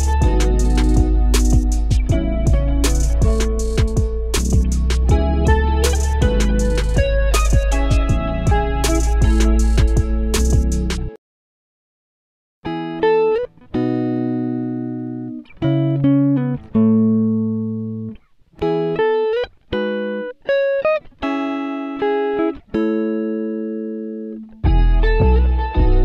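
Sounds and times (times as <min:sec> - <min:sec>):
plucked guitar melody: 0:00.0 - 0:11.2, 0:12.6 - 0:26.0.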